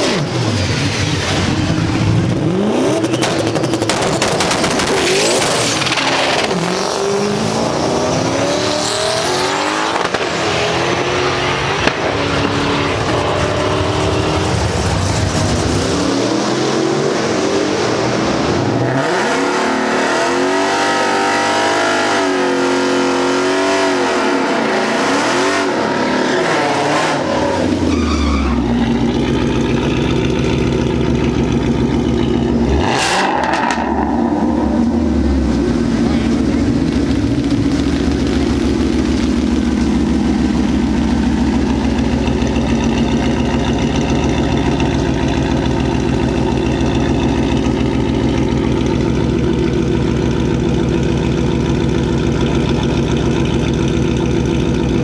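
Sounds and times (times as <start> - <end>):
deep heavy engine drone: 0.0 - 21.8, 22.6 - 55.0
car engine revving: 0.0 - 55.0.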